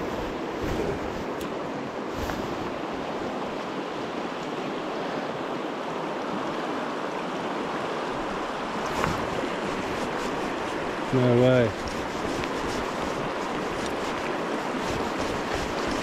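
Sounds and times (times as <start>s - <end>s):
river water rushing over stones: 0.0s - 16.0s.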